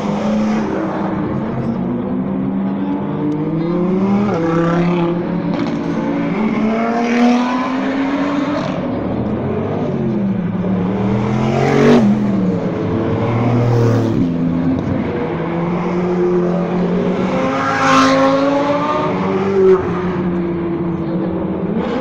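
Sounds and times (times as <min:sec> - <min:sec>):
sports cars passing and revving: 0:00.0 - 0:22.0.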